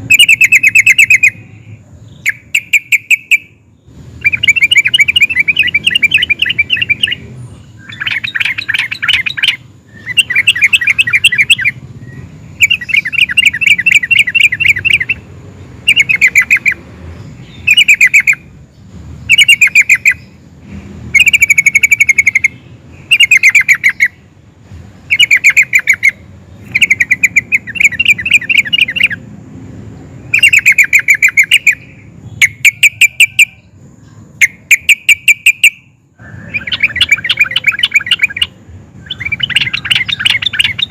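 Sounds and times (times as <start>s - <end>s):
bird chattering song: 0.0s - 40.9s.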